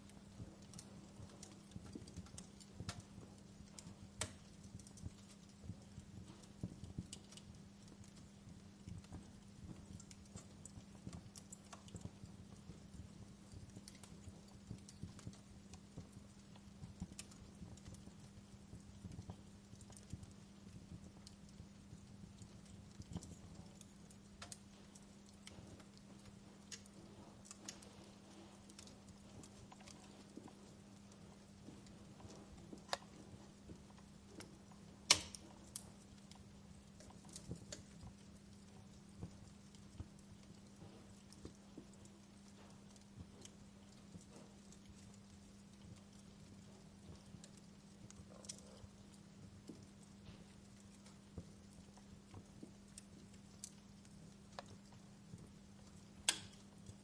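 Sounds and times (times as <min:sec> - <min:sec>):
faint low hum: 0:00.0 - 0:57.0
wood fire crackling and popping: 0:00.0 - 0:57.0.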